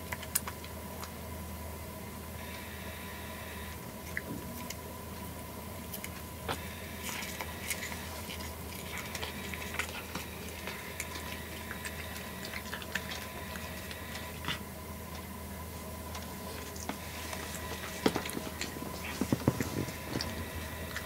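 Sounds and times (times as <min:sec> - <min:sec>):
cat chewing grass: 0:02.4 - 0:21.0.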